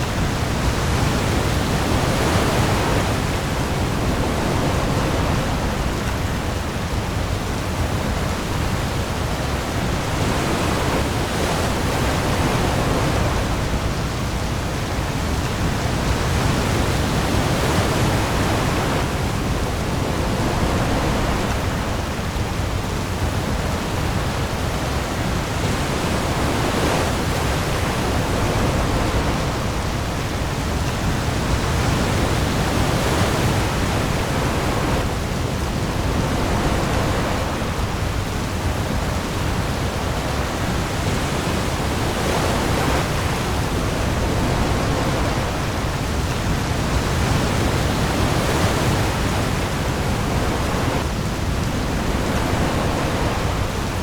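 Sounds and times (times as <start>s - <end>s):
heavy rain on sea: 0.0s - 54.0s
waves: 0.0s - 54.0s.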